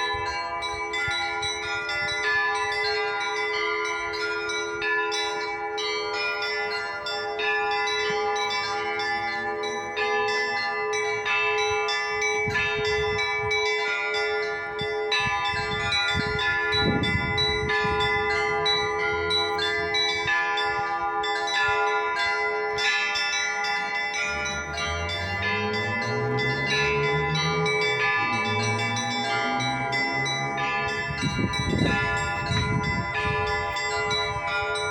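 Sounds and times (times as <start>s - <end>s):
large bells ringing: 0.0s - 34.9s
small church bells struck: 0.0s - 34.9s.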